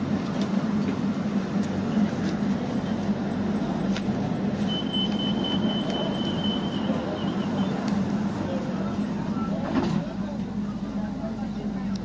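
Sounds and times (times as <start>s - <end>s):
electric train rumble and hum: 0.0s - 12.0s.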